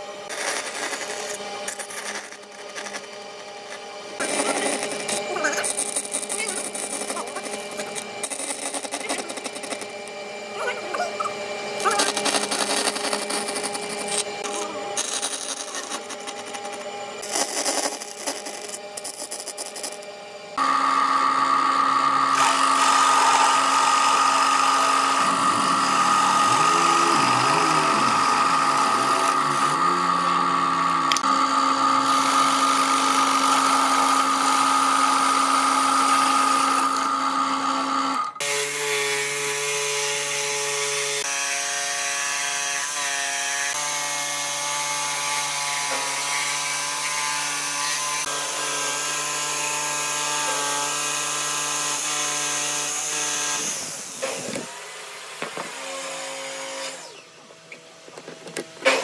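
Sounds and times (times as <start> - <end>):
jigsaw cutting wood: 0.0 - 57.3
electric drill boring wood: 0.0 - 59.0.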